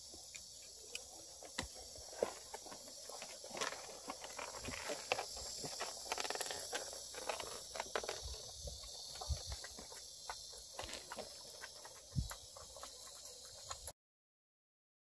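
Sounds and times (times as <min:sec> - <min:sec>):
claws scrabbling on wooden boards: 0:01.5 - 0:13.8.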